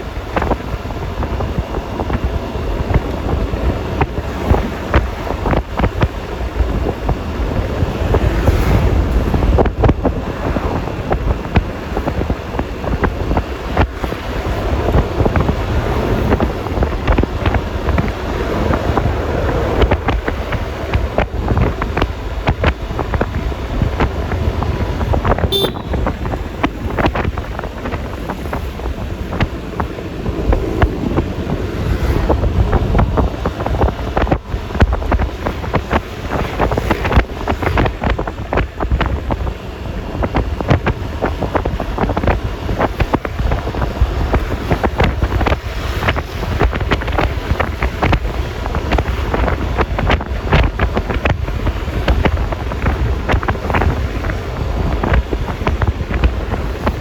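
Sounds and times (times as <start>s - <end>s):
scooter engine and road noise: 0.0s - 57.0s
wind buffeting microphone: 0.0s - 57.0s.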